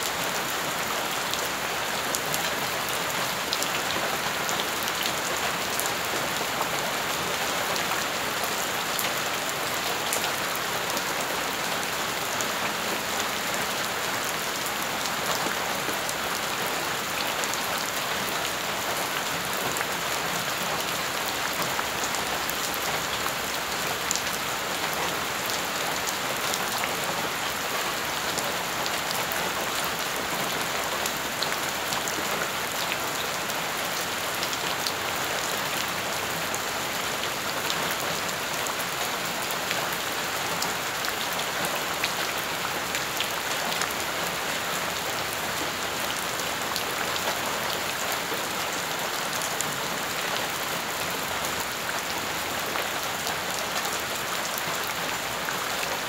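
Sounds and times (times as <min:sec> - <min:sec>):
rain falling on puddles: 0:00.0 - 0:56.0.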